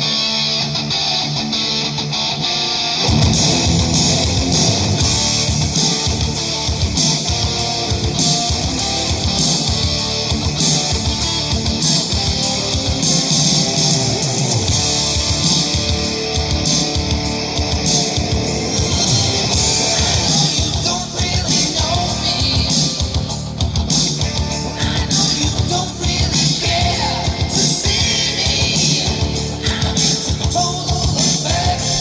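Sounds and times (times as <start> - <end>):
guitar-driven song on speakers: 0.0 - 32.0
drums and bass: 3.0 - 32.0.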